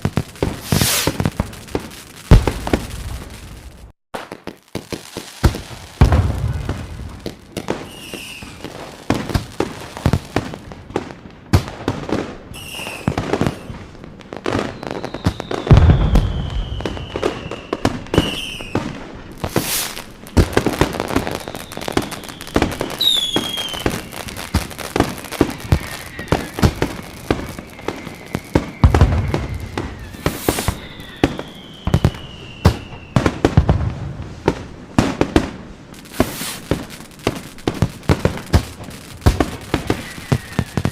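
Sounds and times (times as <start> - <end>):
deep firework booms: 0.0 - 4.4, 5.4 - 12.4, 13.0 - 40.9
falling firework whistles: 0.0 - 40.9
fireworks bangs and crackles: 0.0 - 40.9.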